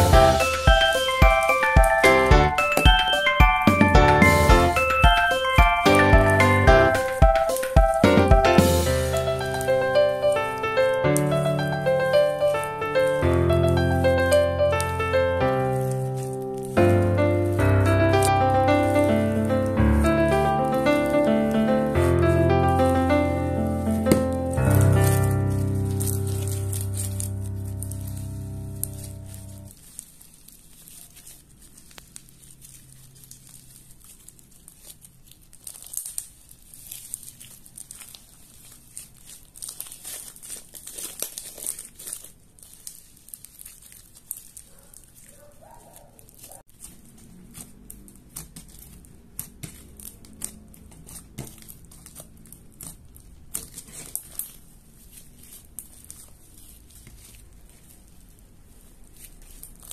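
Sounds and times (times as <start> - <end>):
slime crackling and snapping: 4.8 - 59.9.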